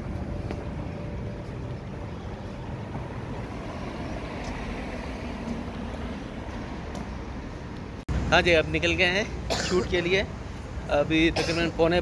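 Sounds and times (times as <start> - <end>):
city street noise rumble: 0.0 - 12.0.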